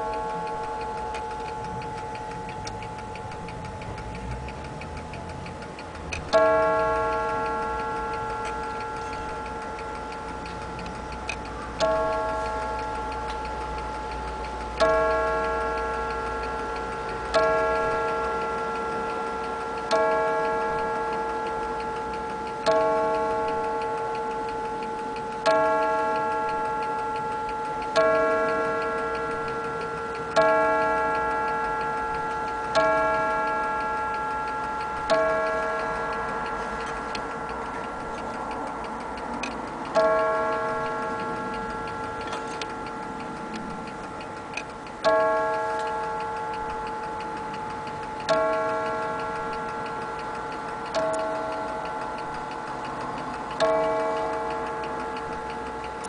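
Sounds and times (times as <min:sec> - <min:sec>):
clock movement ticking: 0:00.0 - 0:56.0
mantel clock striking: 0:00.0 - 0:56.0.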